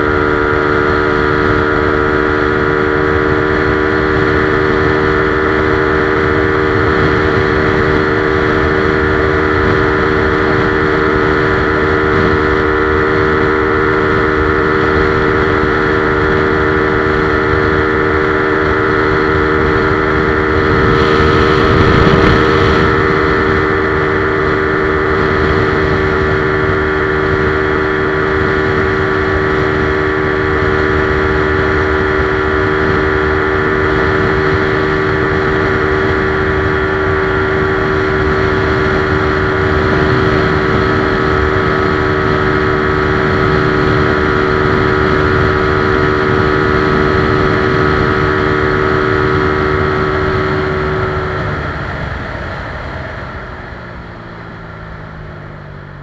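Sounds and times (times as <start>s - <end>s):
motorcycle engine at full throttle: 0.0s - 56.0s
wind rushing: 5.3s - 53.4s.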